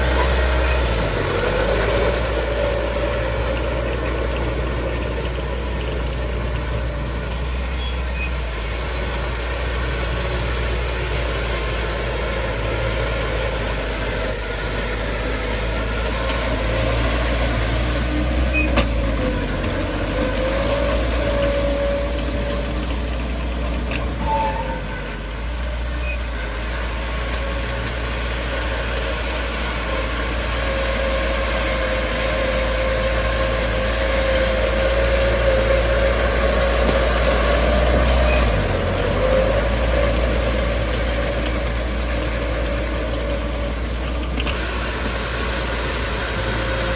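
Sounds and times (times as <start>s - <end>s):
heavy diesel machinery running: 0.0s - 46.9s
machinery whine: 0.0s - 46.9s.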